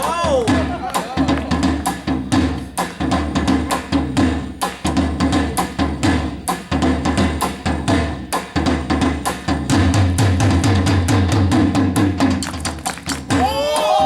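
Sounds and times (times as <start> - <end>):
deep booming bass drum: 0.0 - 13.6
percussion ensemble drumming: 0.0 - 14.0.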